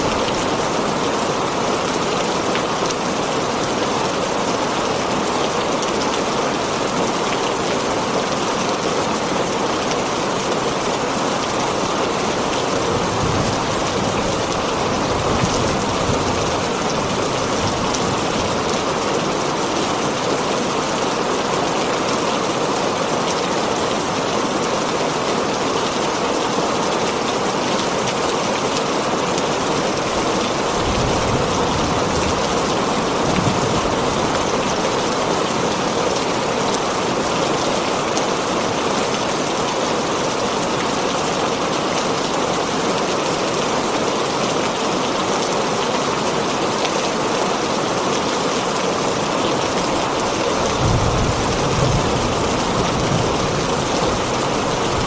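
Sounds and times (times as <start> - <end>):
heavy rain on a tin roof: 0.0 - 55.0.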